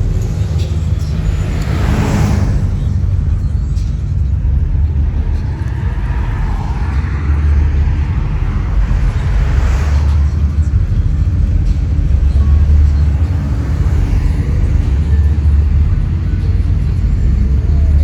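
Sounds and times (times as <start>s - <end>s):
car engines cruising past: 0.0s - 18.0s.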